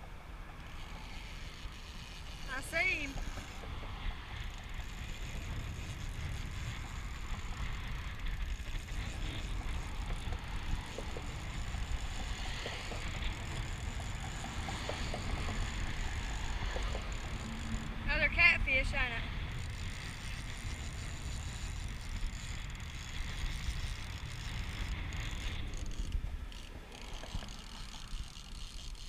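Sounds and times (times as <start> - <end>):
road traffic passing: 0.0 - 29.0
fishing reel ticking: 0.4 - 29.0
wind rumble on microphone: 1.6 - 29.0.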